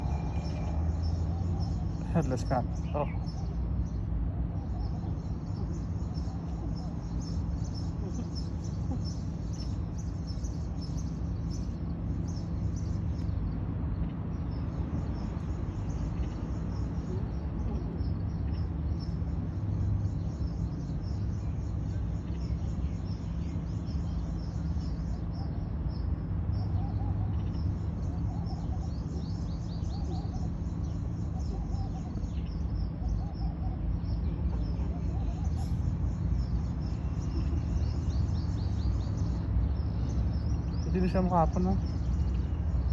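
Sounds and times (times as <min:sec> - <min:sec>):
birds chirping: 0:00.0 - 0:42.9
steady low rumble: 0:00.0 - 0:42.9.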